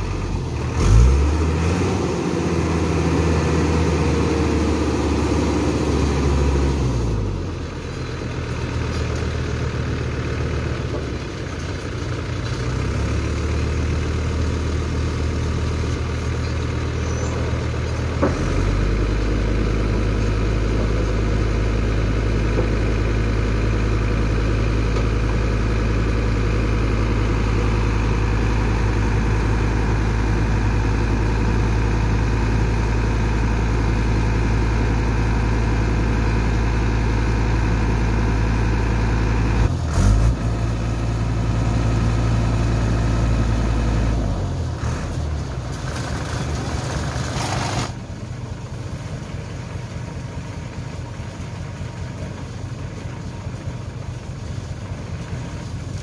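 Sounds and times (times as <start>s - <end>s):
truck engine humming: 0.0s - 56.0s.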